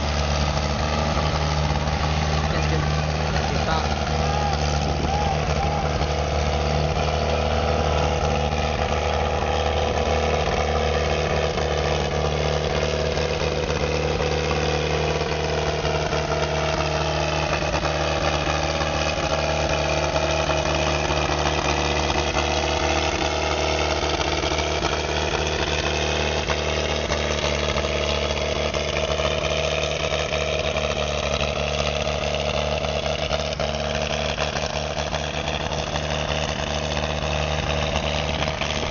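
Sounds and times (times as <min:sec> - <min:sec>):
large engine running: 0:00.0 - 0:38.9.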